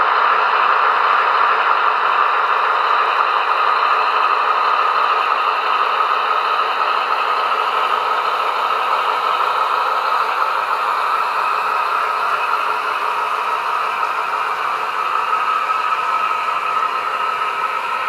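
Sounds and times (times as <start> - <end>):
model train engine sound effect: 0.0 - 18.0.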